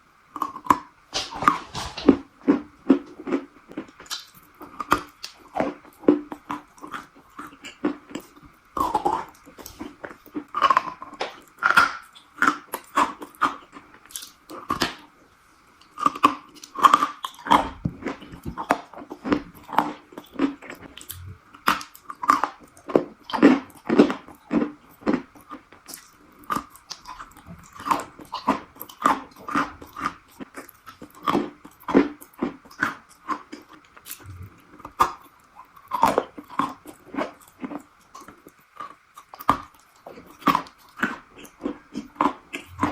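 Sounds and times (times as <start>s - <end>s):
crunchy chewing: 0.3s - 42.9s.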